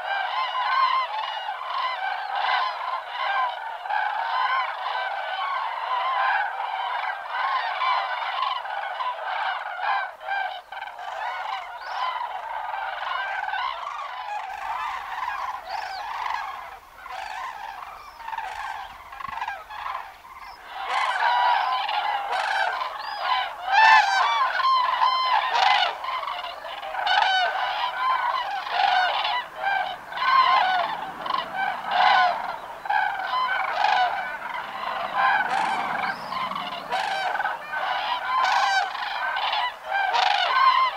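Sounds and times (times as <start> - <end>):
cranes calling in chorus: 0.0 - 40.9.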